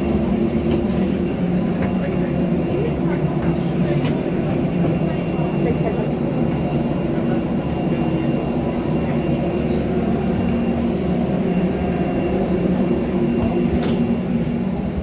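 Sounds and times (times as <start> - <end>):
aircraft cabin ventilation hum: 0.0 - 15.0.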